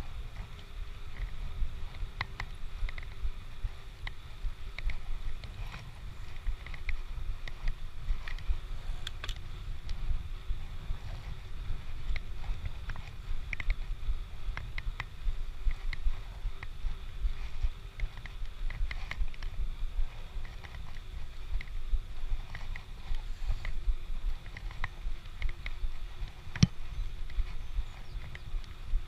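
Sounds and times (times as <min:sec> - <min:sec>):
light ticks and rattles: 0:00.0 - 0:29.0
wind rumble on microphone: 0:00.0 - 0:29.0.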